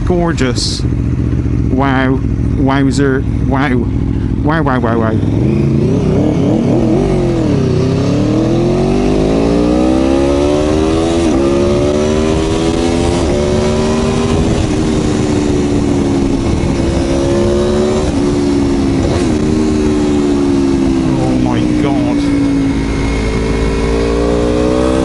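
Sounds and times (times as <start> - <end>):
low wind rush: 0.0 - 25.0
motorcycle engine accelerating: 0.0 - 25.0.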